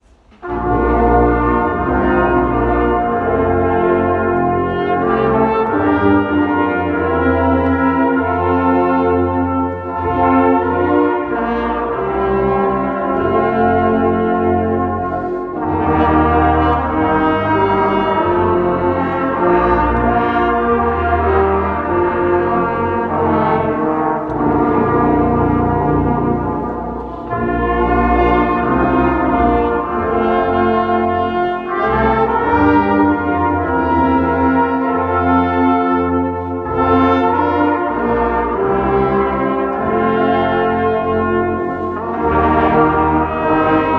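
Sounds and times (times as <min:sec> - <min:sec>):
brass ensemble playing held chords: 0:00.0 - 0:43.9.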